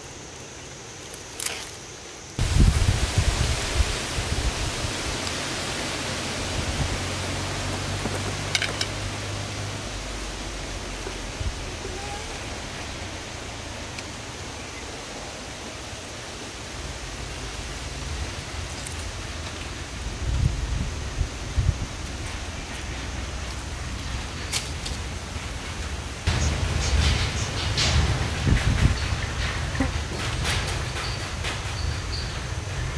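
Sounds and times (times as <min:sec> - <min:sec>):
steady outdoor rushing noise: 0:02.2 - 0:32.9.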